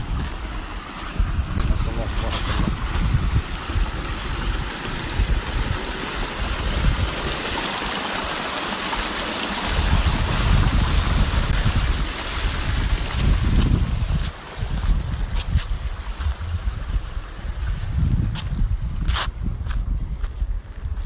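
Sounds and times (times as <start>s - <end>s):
wind buffeting microphone: 0.0s - 8.0s, 9.6s - 21.0s
stream water running over rock: 0.0s - 19.2s.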